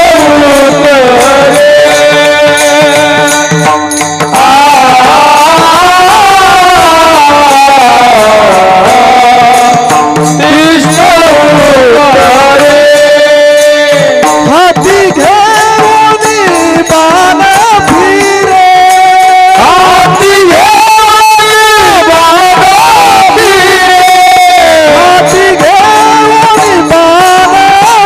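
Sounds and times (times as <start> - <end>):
person singing long held notes: 0.0 - 28.0
tabla: 0.0 - 28.0.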